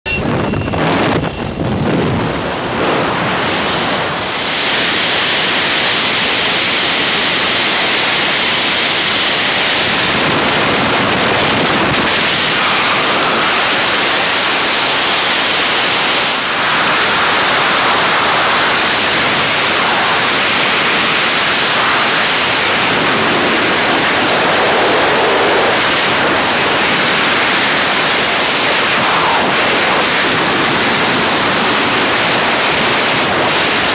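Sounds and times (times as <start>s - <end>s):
wind rushing over microphone: 0.1s - 33.9s.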